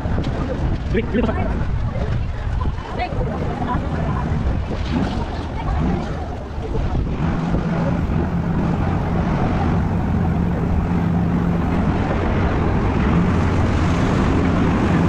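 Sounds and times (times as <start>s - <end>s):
ferry engine humming: 0.0s - 15.0s.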